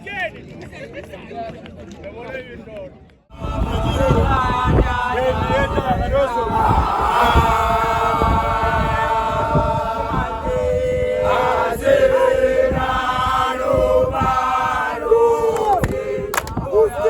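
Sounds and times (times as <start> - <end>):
choir singing in harmony: 3.3 - 17.0.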